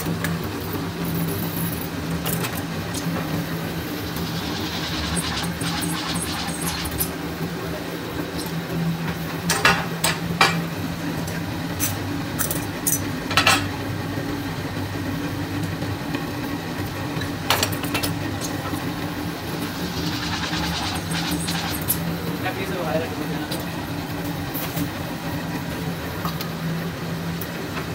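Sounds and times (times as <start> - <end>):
press machinery humming: 0.0 - 9.8, 14.4 - 27.9.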